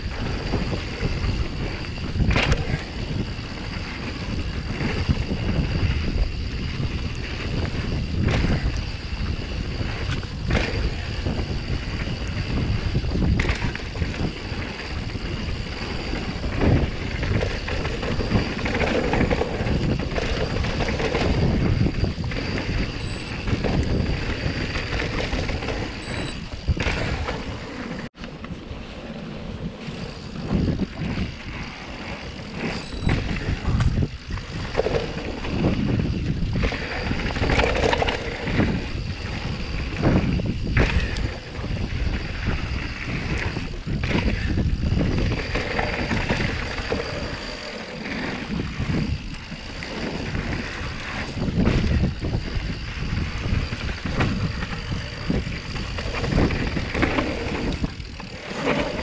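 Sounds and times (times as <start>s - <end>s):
bike knocking and rattling: 0.0s - 59.0s
bike tyres on rough ground: 0.0s - 59.0s
wind rushing over microphone: 0.0s - 59.0s.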